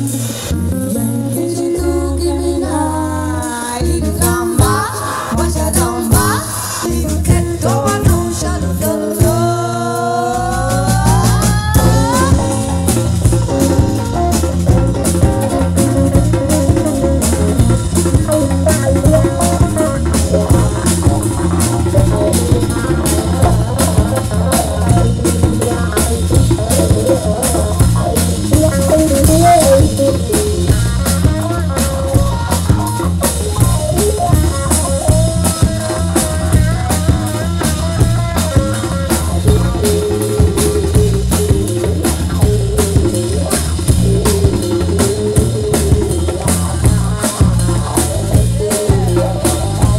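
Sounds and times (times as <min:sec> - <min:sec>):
bass guitar: 0:00.0 - 0:49.9
electric guitar: 0:00.0 - 0:49.9
drum kit beat: 0:03.9 - 0:49.9.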